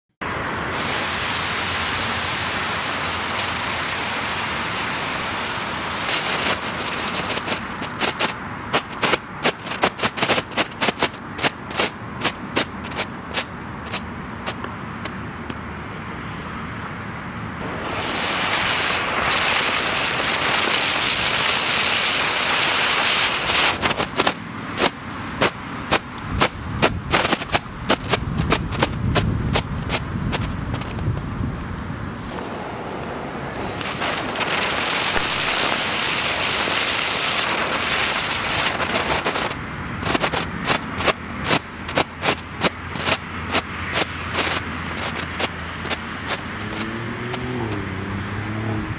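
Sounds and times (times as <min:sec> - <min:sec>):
spinning firework hissing sparks: 0:00.4 - 0:15.6, 0:17.6 - 0:31.4, 0:32.0 - 0:47.8
firework sharp cracks: 0:00.7 - 0:15.6, 0:17.6 - 0:31.3, 0:32.2 - 0:47.8
firework sharp pops: 0:00.7 - 0:15.6, 0:17.6 - 0:47.8.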